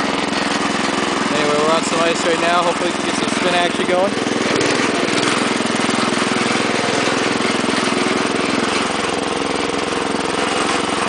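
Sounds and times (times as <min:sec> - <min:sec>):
small tractor engine running: 0:00.0 - 0:11.0.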